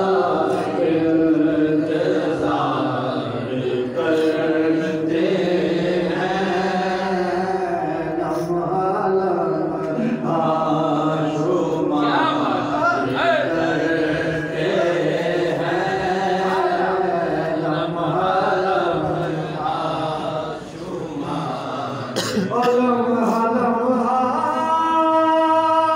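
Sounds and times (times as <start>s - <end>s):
man singing unaccompanied: 0.0s - 25.9s.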